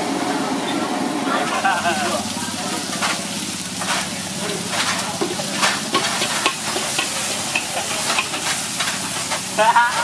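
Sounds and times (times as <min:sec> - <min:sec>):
oil sizzling in a wok: 0:00.0 - 0:10.0
metal utensil scraping wok: 0:01.4 - 0:10.0.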